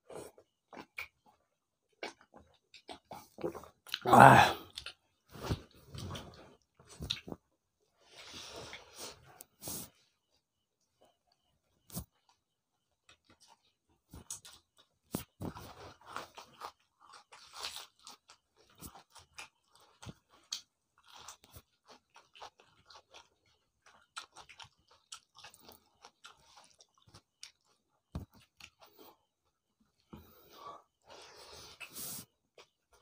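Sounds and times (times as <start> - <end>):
close chewing with crunches: 0.0 - 10.0, 10.9 - 33.0.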